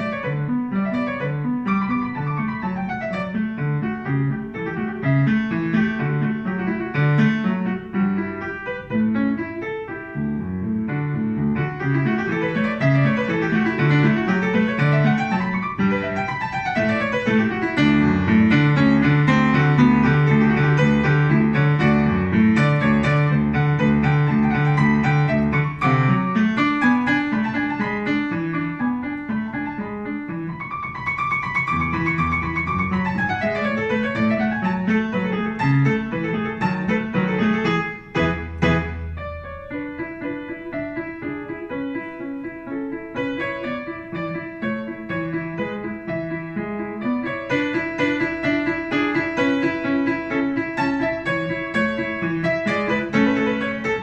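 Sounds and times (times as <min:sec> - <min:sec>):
upright piano playing: 0:00.0 - 0:54.0.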